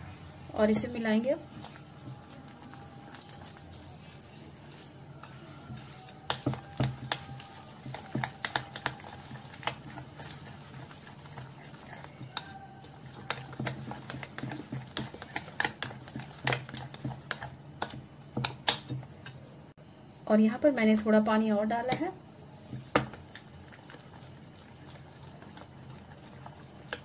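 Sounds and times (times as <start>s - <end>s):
metal spoon stirring batter: 0.8s - 19.4s, 22.6s - 27.0s.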